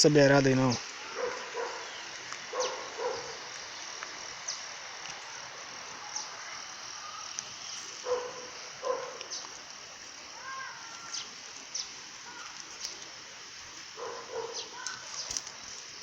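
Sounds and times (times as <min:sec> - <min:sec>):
insects chirping: 0:00.0 - 0:16.0
steady hiss: 0:00.0 - 0:16.0.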